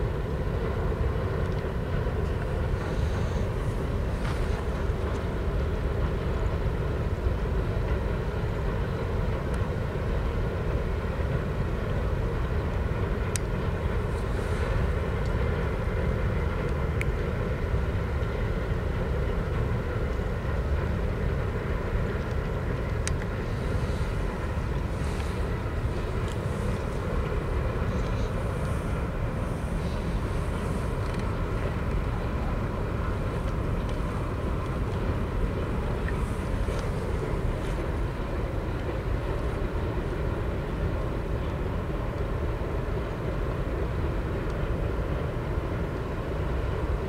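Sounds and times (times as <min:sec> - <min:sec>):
freight train rumbling on rails: 0:00.0 - 0:47.0.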